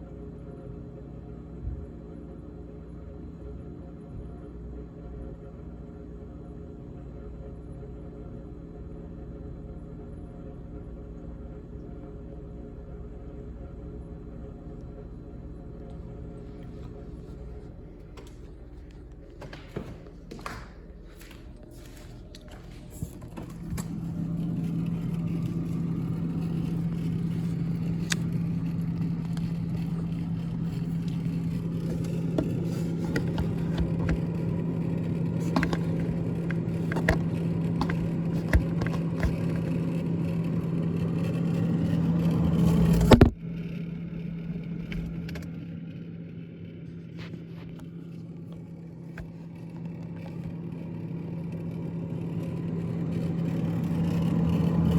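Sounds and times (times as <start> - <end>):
refrigerator humming: 0.0 - 54.9.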